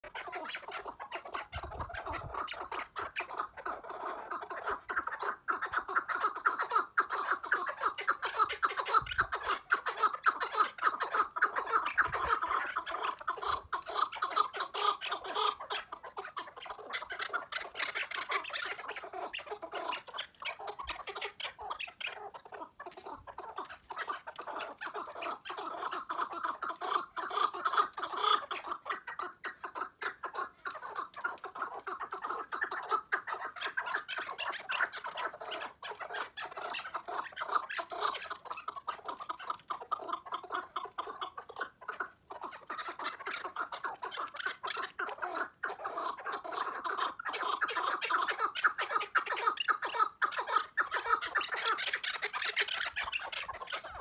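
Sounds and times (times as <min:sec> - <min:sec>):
partridge clucking call: 0:00.0 - 0:54.0.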